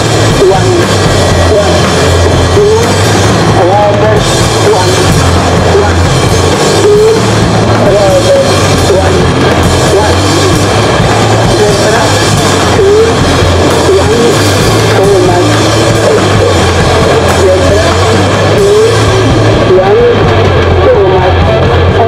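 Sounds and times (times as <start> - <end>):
punk rock band: 0.0 - 22.0.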